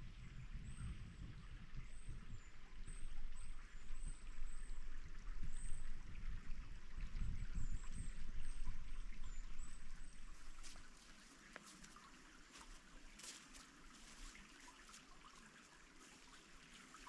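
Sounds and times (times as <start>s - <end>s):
stream water trickling: 0.0s - 17.0s.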